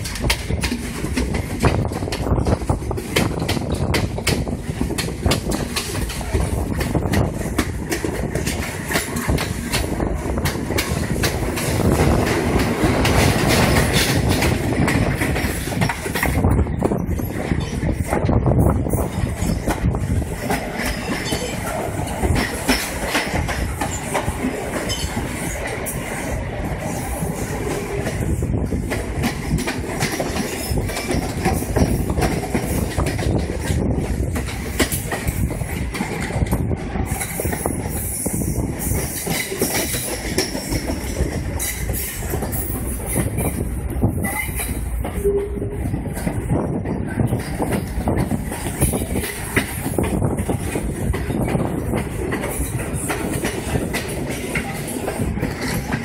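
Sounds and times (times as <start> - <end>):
wheels clicking over track: 0.0 - 26.1, 26.8 - 43.7, 46.0 - 56.0
train rumbling: 0.0 - 56.0.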